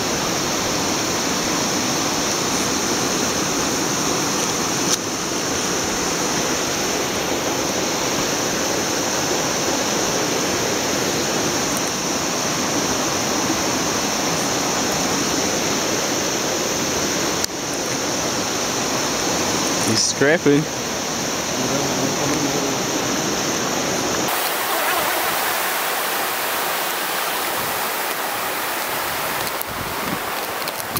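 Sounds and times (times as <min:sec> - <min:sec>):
river water rushing over stones: 0:00.0 - 0:30.9.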